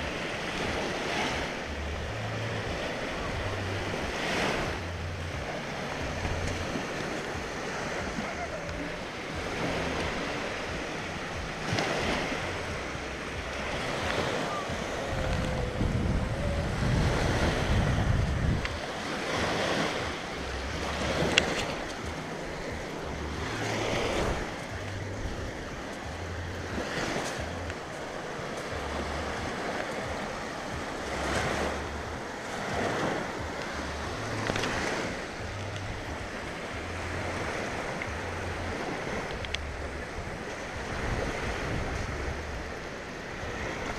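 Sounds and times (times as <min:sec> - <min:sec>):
lake waves lapping on shore: 0:00.0 - 0:43.9
wind buffeting microphone: 0:00.0 - 0:43.9.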